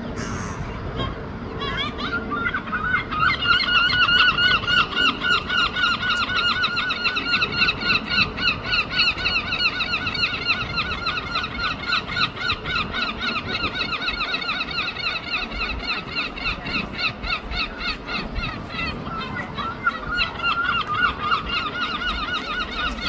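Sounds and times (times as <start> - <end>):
gulls yelping calls: 0.0 - 23.0.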